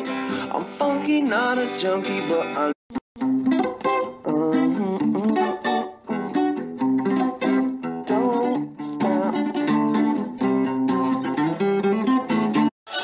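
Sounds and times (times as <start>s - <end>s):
song with plucked guitar: 0.0s - 13.0s.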